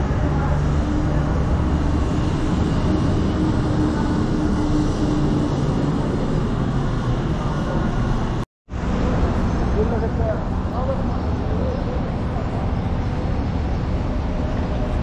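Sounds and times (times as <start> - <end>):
low rumble of city ambience: 0.0 - 15.0.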